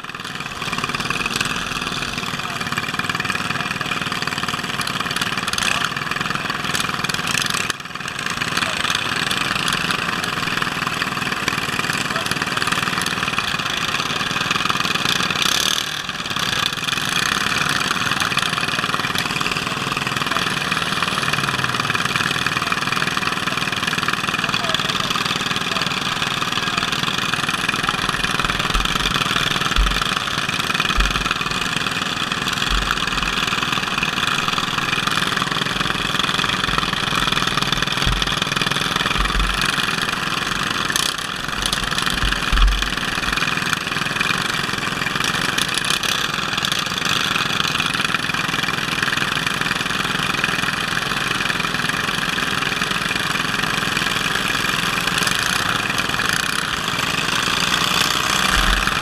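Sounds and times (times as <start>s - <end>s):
lawn tractor engine running: 0.0s - 59.0s.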